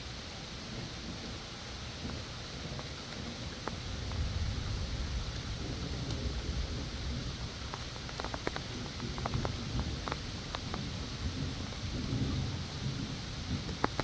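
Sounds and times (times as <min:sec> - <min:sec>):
continuous low rumble: 0:00.0 - 0:14.0
steady rain falling: 0:00.0 - 0:14.0.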